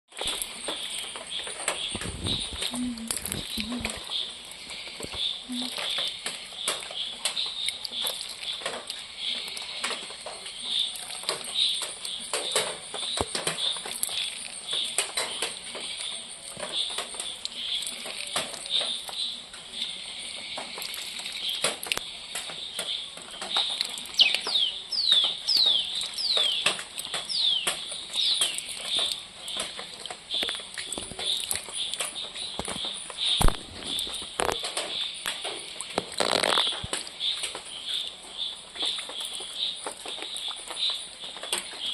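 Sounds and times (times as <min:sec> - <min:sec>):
small ticks and drips: 0:00.1 - 0:41.9.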